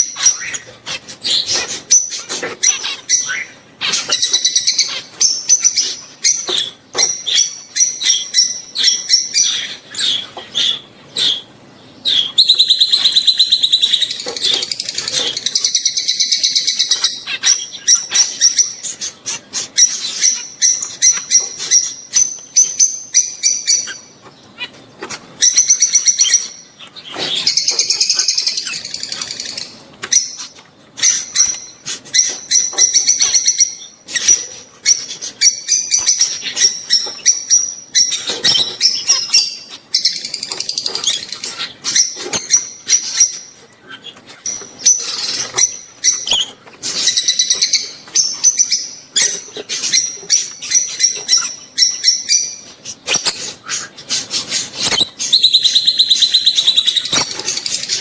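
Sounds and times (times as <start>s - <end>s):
birds chirping: 0.0s - 58.0s
birds trilling: 0.0s - 58.0s.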